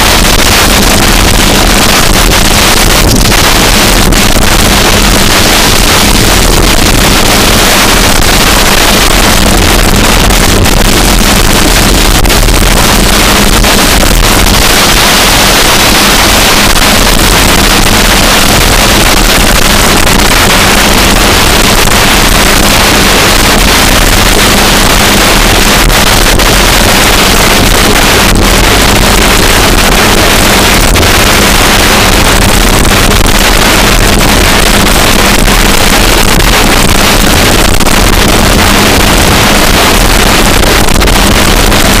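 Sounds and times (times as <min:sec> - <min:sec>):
wind blasting over microphone: 0:00.0 - 0:42.0.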